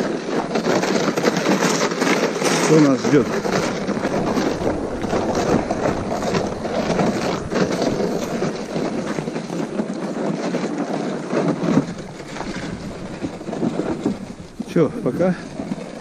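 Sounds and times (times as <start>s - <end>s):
footsteps crunching on snow: 0.0s - 16.0s
wind on microphone: 0.0s - 16.0s.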